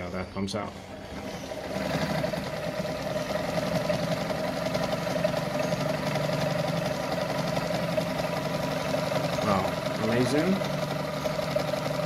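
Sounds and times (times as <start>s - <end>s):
sewing machine running: 0.9s - 12.0s.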